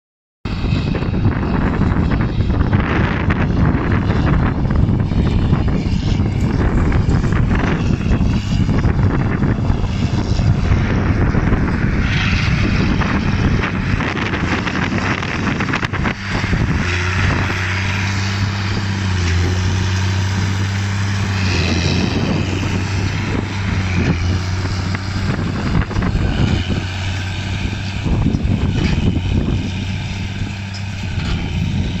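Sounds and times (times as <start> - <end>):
tractor diesel engine drone: 0.5 - 32.0.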